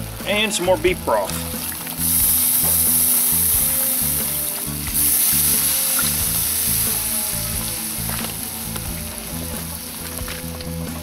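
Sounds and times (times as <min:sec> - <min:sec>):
background music: 0:00.0 - 0:11.0
broth sizzling in hot pot: 0:00.0 - 0:11.0.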